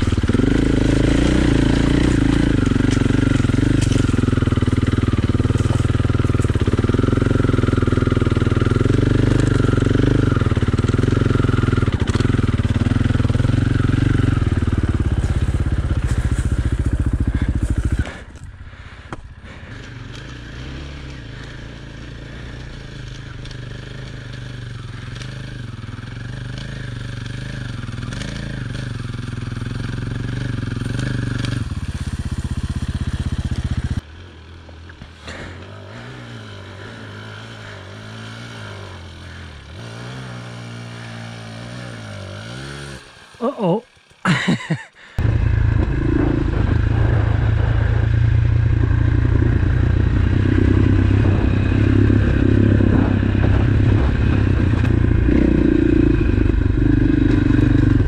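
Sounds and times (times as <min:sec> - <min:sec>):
dirt bike approaching: 0:00.0 - 0:58.0
dirt bike engine running: 0:00.0 - 0:58.0.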